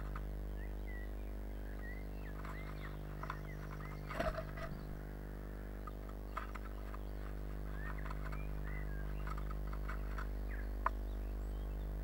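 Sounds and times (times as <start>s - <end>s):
electrical hum: 0.0s - 12.0s
faint bird chirps: 0.4s - 12.0s.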